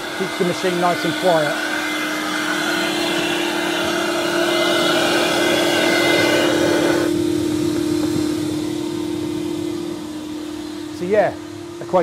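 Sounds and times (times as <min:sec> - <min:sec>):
carpet extraction machine humming: 0:00.0 - 0:12.0.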